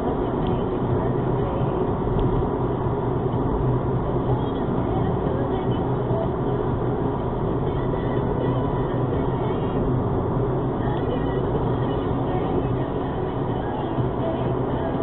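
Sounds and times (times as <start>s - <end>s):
car cabin engine hum: 0.0s - 15.0s
tyre road noise: 0.0s - 15.0s.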